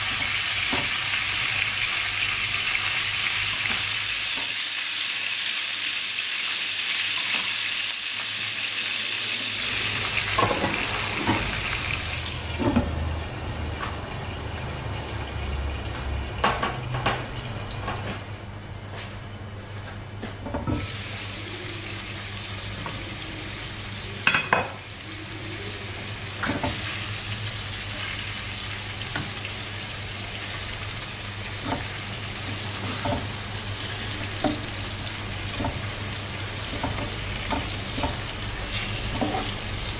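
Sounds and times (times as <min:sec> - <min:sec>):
meat sizzling in a frying pan: 0:00.0 - 0:13.0, 0:20.8 - 0:39.9.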